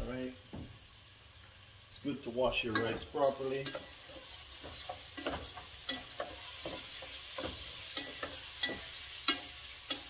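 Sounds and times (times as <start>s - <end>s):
rice sizzling in a pot: 0.0s - 10.0s.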